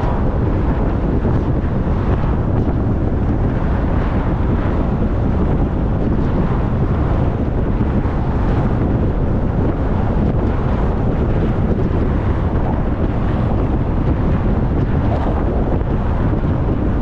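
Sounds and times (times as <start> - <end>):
road noise: 0.0 - 17.0
wind rushing over microphone: 0.0 - 17.0.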